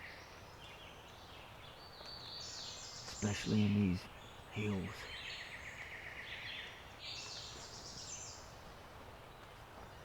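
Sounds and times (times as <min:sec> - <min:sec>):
songbirds singing: 0:00.0 - 0:10.0.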